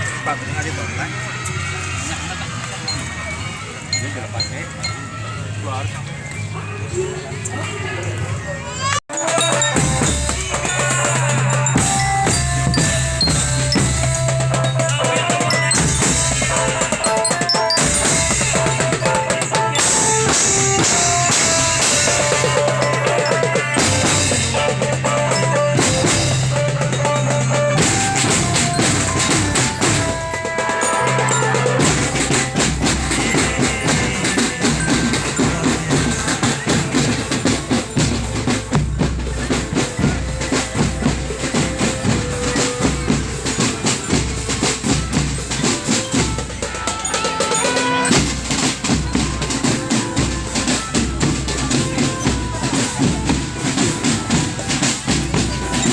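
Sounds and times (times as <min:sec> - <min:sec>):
melodic notes: 0:01.4 - 0:06.1, 0:09.1 - 0:55.9
marching drum band: 0:08.8 - 0:55.9.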